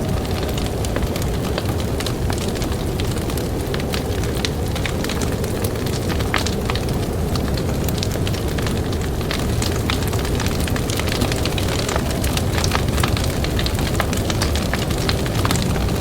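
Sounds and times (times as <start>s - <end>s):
blizzard wind rumble: 0.0s - 16.0s
campfire crackling: 0.0s - 16.0s.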